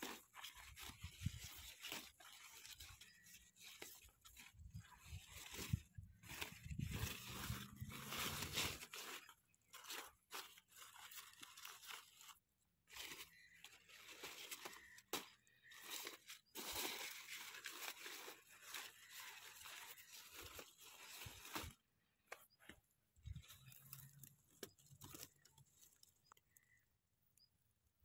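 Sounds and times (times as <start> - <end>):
rustling of leaves and vines: 0.0 - 26.8.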